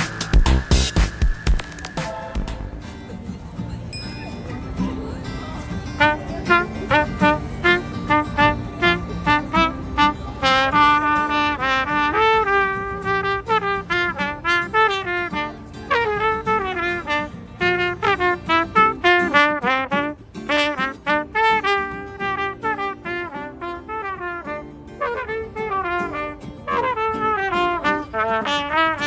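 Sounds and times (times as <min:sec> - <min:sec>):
instrumental street music: 0:00.0 - 0:29.0.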